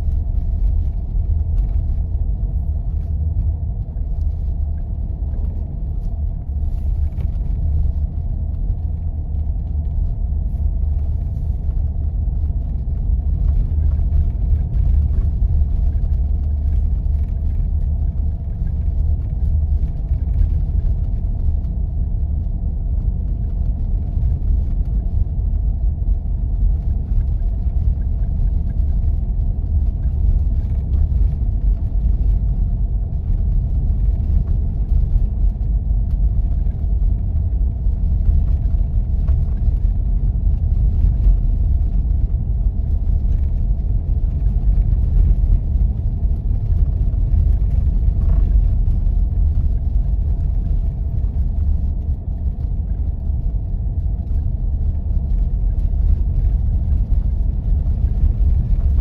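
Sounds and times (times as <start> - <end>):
vehicle driving on snow: 0.0 - 59.0.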